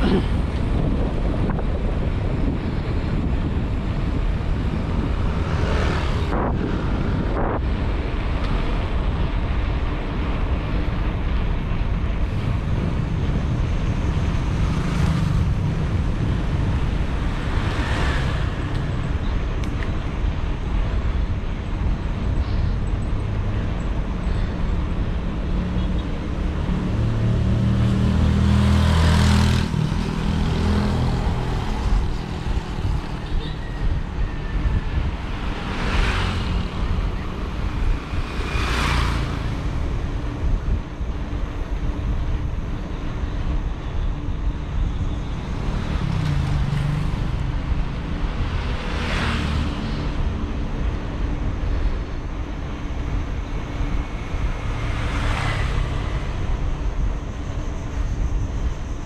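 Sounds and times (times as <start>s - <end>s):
vehicles passing: 0.0s - 59.0s
wind and road noise: 0.0s - 59.0s.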